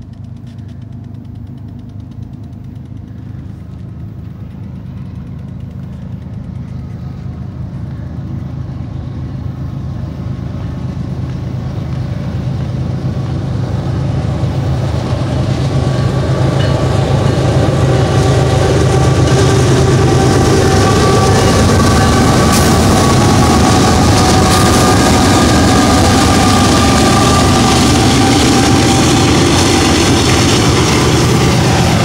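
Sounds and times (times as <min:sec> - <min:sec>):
locomotive engine drone: 0:00.0 - 0:32.0
wheel and rail noise: 0:00.0 - 0:32.0.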